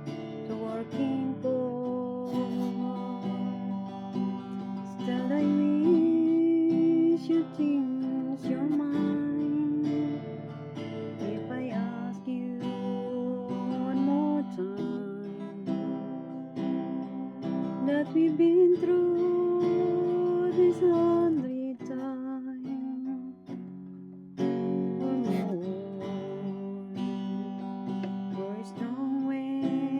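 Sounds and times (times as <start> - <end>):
acoustic guitar strumming chords: 0.0 - 29.9.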